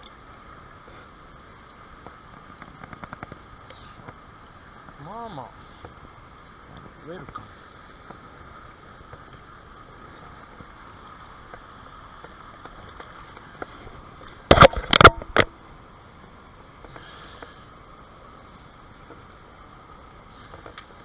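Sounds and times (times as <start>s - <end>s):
stream water flowing: 0.0s - 21.0s.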